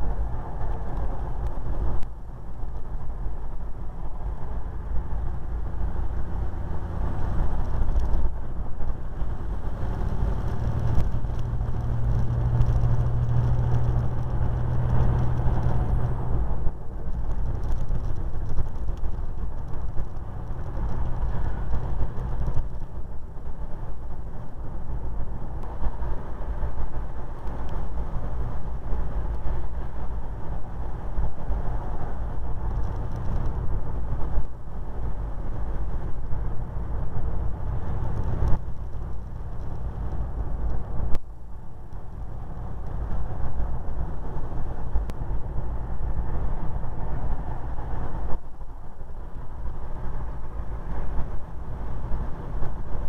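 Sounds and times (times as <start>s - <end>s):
low engine hum: 0.0s - 53.0s
vehicle cab road noise: 0.0s - 53.0s.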